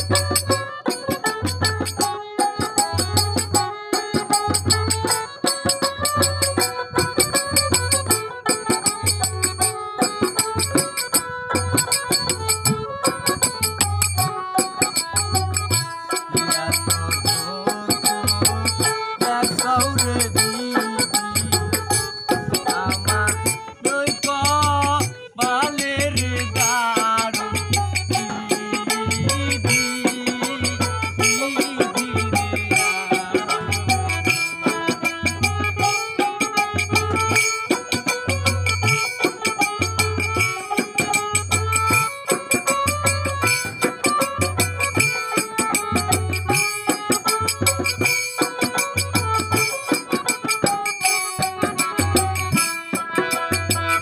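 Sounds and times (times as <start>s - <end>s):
barrel drum beating: 0.0s - 54.0s
hand cymbals striking: 0.0s - 54.0s
harmonium chords: 0.0s - 54.0s.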